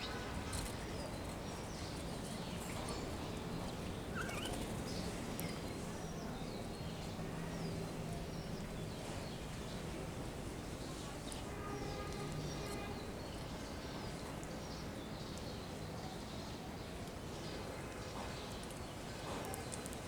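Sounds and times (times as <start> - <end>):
small birds chirping: 0.0 - 16.6
steady background noise: 0.0 - 20.0.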